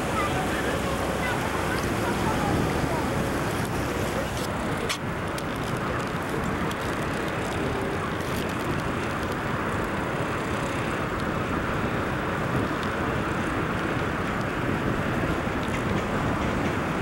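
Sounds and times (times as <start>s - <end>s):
boat engine running: 0.0s - 17.0s
water rushing along hull: 0.0s - 17.0s.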